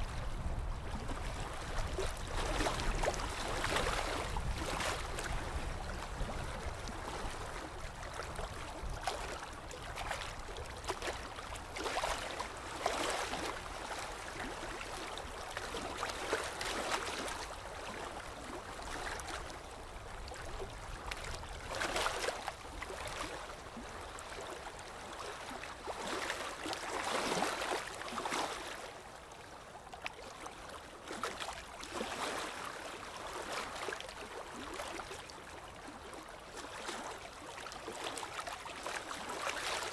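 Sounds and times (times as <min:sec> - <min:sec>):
water splashing and lapping: 0:00.0 - 0:39.9.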